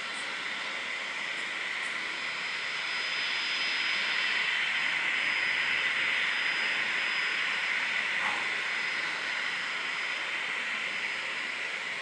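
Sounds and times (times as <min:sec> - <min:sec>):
helicopter engine whine and rotor: 0:00.0 - 0:12.0.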